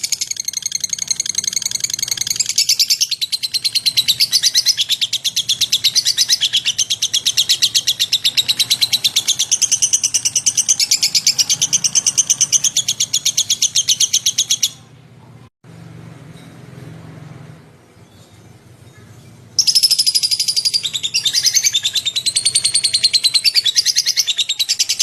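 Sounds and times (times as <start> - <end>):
bird high fast chirps: 0.0 - 14.9, 18.0 - 25.0.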